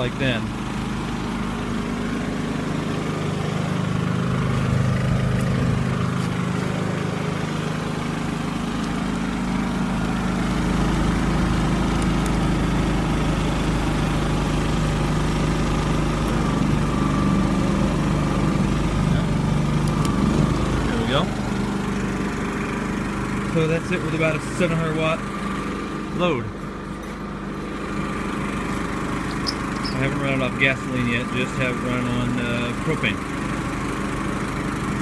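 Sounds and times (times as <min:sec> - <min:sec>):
generator engine running: 0:00.0 - 0:35.0.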